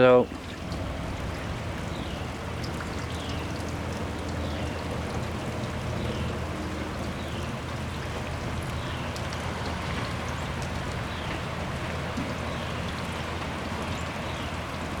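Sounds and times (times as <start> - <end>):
rain falling: 0.0 - 15.0
water dripping down rain chain: 0.0 - 15.0.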